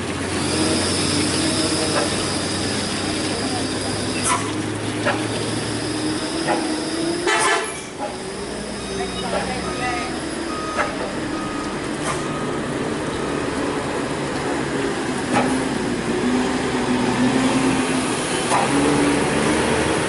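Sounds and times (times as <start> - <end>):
truck diesel engine labouring uphill: 0.0 - 20.0.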